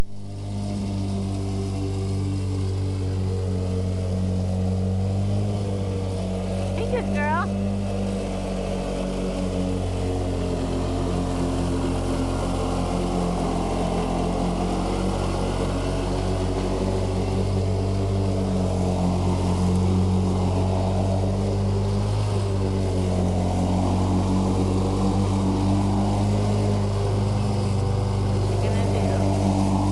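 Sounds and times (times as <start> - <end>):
lawn mower engine droning: 0.0 - 29.9.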